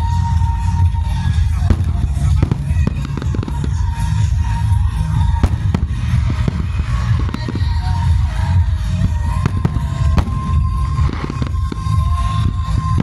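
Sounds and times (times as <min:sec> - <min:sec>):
fireworks bangs and crackles: 0:00.0 - 0:13.0
low rumble: 0:00.0 - 0:13.0
music: 0:00.0 - 0:13.0.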